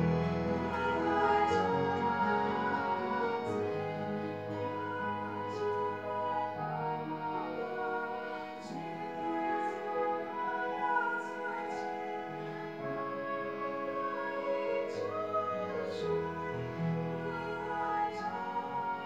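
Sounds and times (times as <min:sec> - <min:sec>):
harmonium keyboard and guitar chords: 0:00.0 - 0:19.0
woman singing slow melody: 0:00.6 - 0:19.0.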